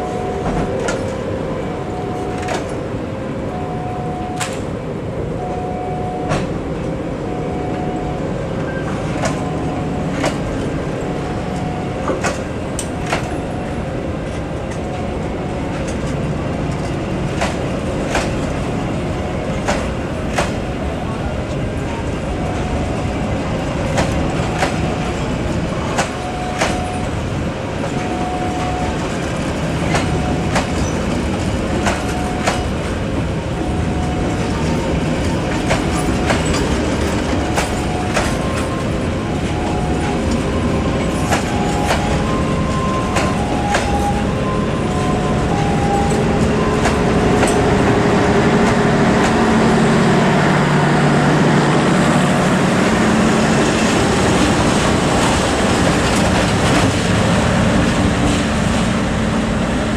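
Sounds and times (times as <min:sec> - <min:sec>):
diesel locomotive engine hum: 0:00.0 - 0:59.9
wheels clacking over rail joints: 0:08.6 - 0:49.9, 0:51.0 - 0:59.9.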